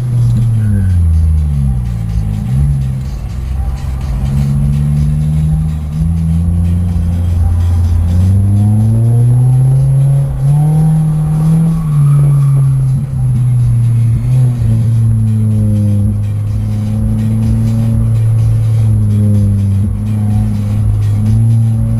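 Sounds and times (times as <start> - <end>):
car engine revving: 0.0 - 21.9
music with heavy bass: 0.0 - 21.9.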